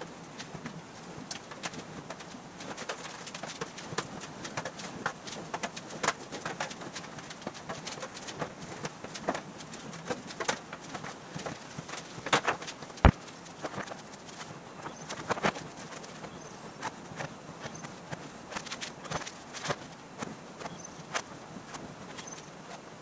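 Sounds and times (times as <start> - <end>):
metal sheet clicking and tapping: 1.3 - 22.8.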